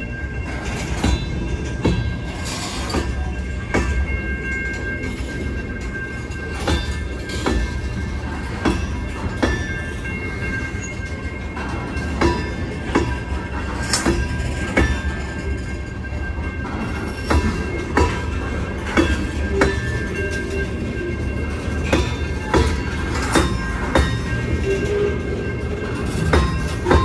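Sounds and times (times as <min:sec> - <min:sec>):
freight train rumbling past: 0:00.0 - 0:27.0
wheel clacks on rail joints: 0:00.0 - 0:27.0.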